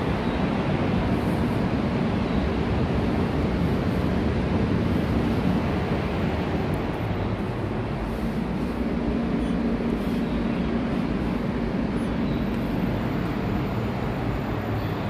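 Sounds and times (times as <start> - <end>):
elevator car humming and rumbling: 0.0 - 15.0.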